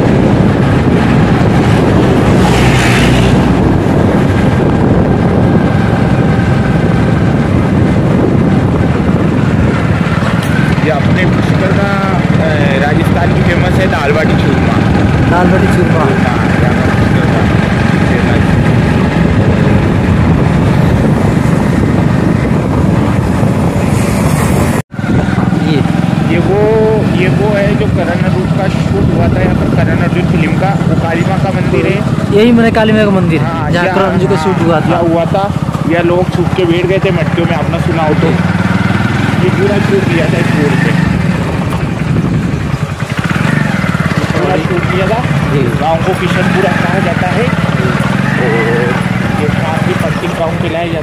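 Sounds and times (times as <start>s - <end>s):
motorbike engine: 0.0s - 51.0s
road noise: 0.0s - 51.0s
wind rumbling on microphone: 0.0s - 51.0s.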